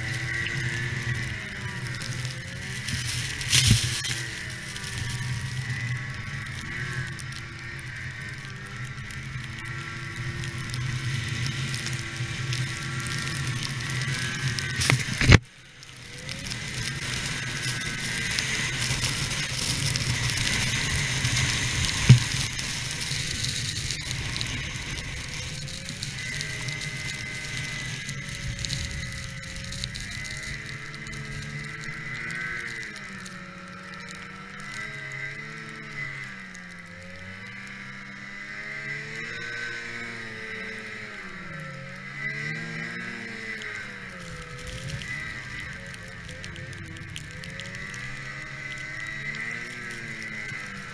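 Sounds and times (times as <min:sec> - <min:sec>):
blowing snow and wind hiss: 0:00.0 - 0:15.4, 0:16.0 - 0:50.9
snowmobile engine running: 0:00.0 - 0:50.9.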